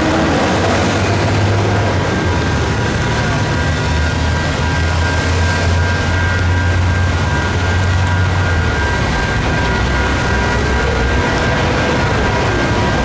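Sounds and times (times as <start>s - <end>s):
low engine rumble: 0.0s - 13.0s
railroad crossing bells ringing: 0.0s - 13.0s.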